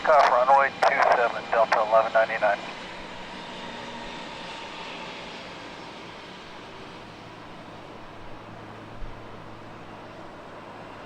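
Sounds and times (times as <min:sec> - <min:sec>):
distant jet engines rushing: 0:00.0 - 0:11.0.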